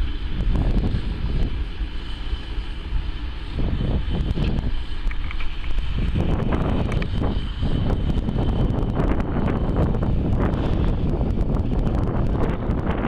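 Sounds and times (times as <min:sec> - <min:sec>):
gusty wind noise: 0:00.0 - 0:13.0
tractor diesel engine running: 0:00.0 - 0:13.0.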